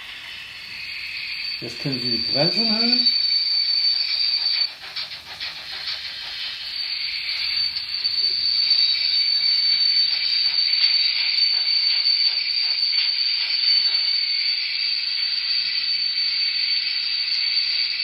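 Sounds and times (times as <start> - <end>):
high brake squeal: 0.0 - 18.0
hiss of steam: 0.0 - 18.0.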